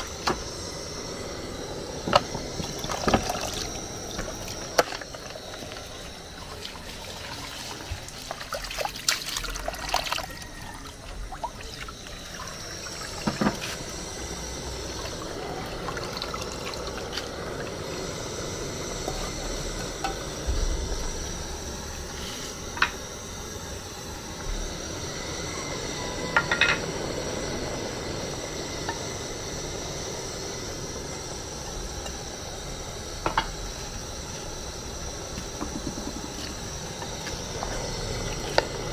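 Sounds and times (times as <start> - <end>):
soup bubbling in a pot: 0.0 - 38.9.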